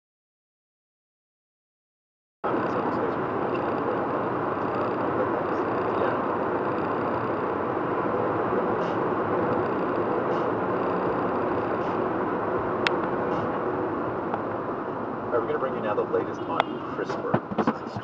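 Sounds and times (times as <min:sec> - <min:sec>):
car road and engine noise: 0:02.4 - 0:18.0.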